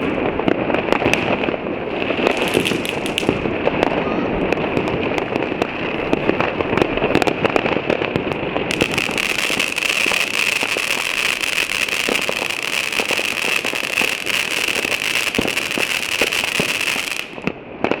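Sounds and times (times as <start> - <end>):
fireworks and firecrackers banging: 0.0 - 18.0.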